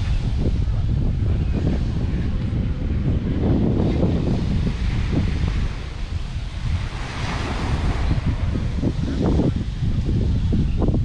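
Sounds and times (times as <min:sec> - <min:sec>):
surf on beach: 0:00.0 - 0:11.0
wind buffeting microphone: 0:00.0 - 0:11.0.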